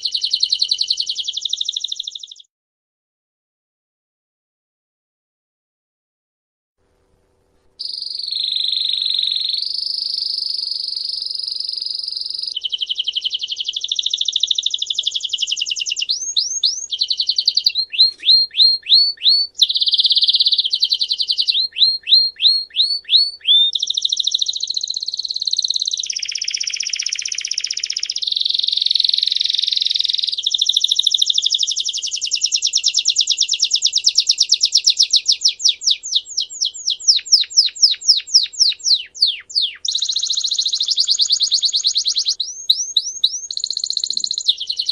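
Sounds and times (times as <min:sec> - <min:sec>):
songbird singing trills: 0:00.0 - 0:02.5, 0:07.8 - 0:44.9.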